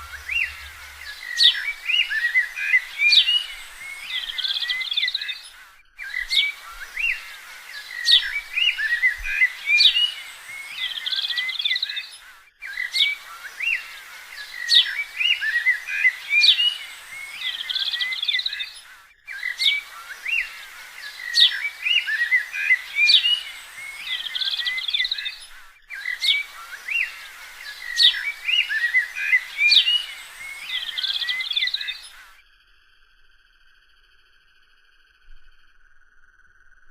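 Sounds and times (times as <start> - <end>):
birds calling and chirping: 0.0 - 32.4.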